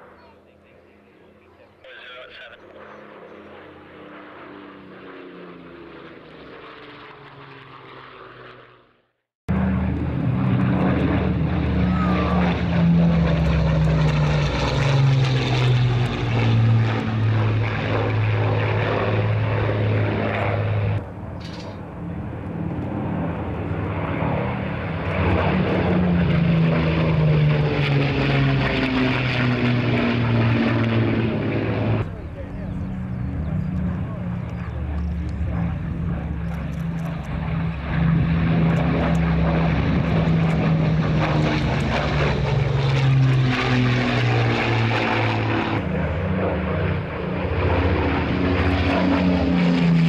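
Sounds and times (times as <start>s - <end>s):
propeller aircraft flying past: 0.0s - 50.0s.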